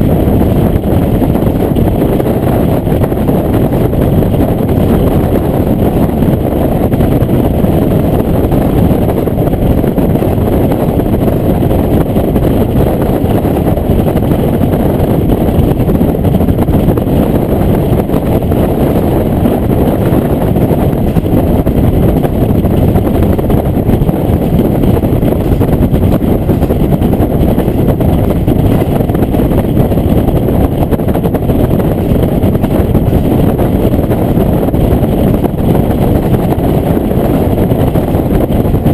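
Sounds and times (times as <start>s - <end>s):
diesel railcar engine running: 0.0s - 38.9s.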